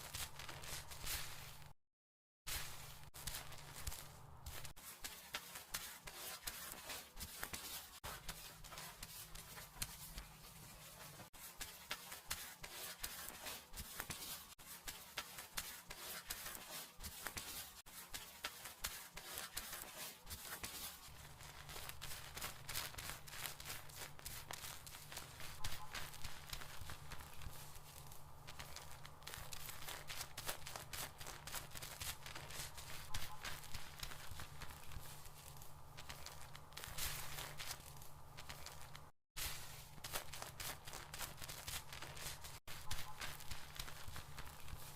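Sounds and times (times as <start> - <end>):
fingers scrubbing hair: 2.5 - 44.9.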